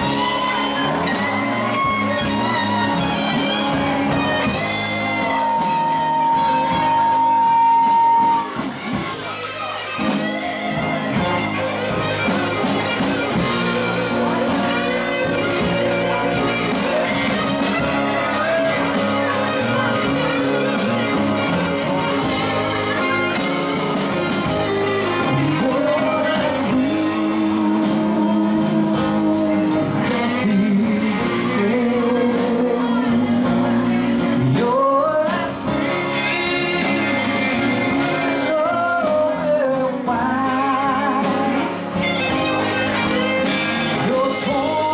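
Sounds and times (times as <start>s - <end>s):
man singing: 0.0s - 8.6s, 10.7s - 44.9s
acoustic guitar: 0.0s - 44.9s
electric bass: 0.0s - 44.9s
electric guitar: 0.0s - 44.9s.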